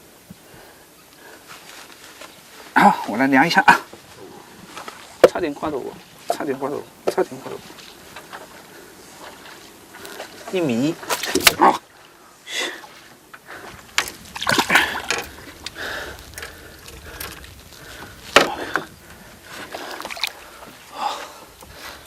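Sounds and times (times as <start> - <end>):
water splashing and sloshing: 1.6 - 22.0.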